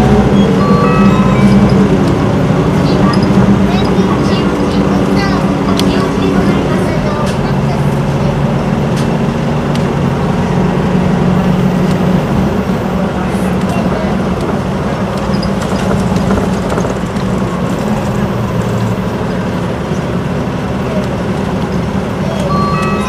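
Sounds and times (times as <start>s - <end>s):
bus diesel engine running: 0.0s - 23.0s
road noise: 0.0s - 23.0s.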